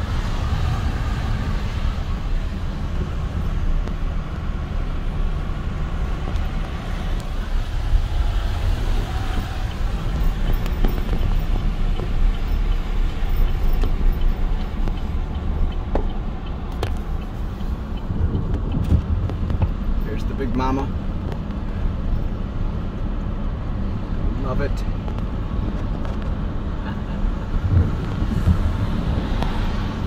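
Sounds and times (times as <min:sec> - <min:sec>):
car road noise on wet pavement: 0:00.0 - 0:30.0.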